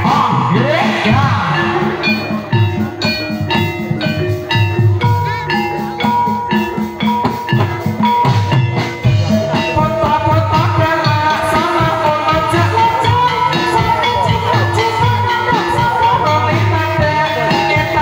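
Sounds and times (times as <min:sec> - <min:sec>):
drum beats: 0:00.0 - 0:18.0
metallophones ringing a melody: 0:00.0 - 0:18.0.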